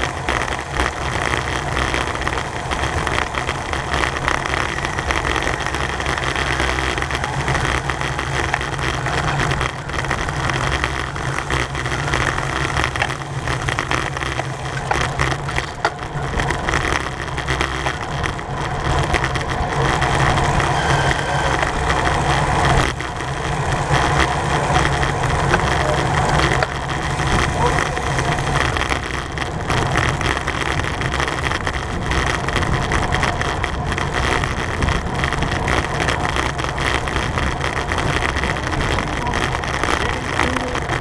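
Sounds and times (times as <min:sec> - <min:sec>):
heavy low rumble: 0:00.0 - 0:41.0
wind rushing over microphone: 0:00.0 - 0:41.0.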